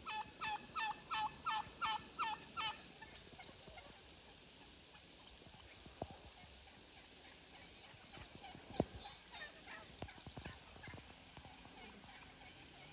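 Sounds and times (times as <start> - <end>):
wild turkeys gobbling and calling: 0.0 - 12.9.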